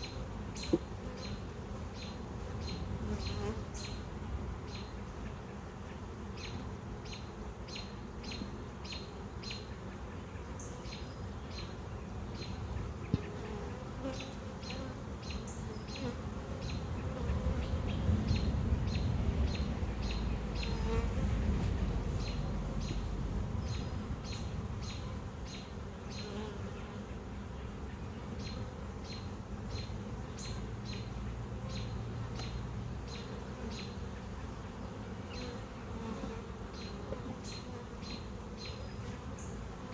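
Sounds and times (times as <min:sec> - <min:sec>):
honey bees buzzing: 0:00.0 - 0:39.9.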